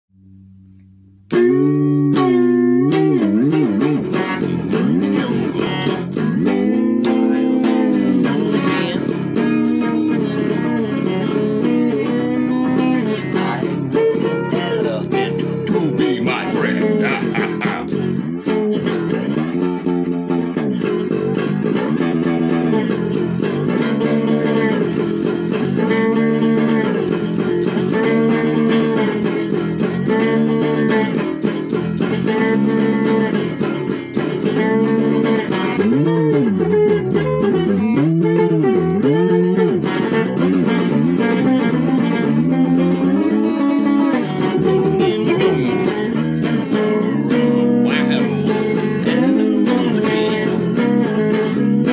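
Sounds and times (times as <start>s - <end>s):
electric guitar blues: 0.2s - 51.9s.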